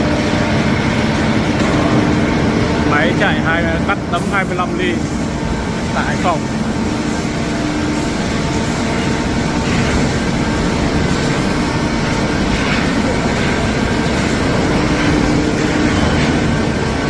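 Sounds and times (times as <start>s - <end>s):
steady industrial machine noise: 0.0s - 17.0s.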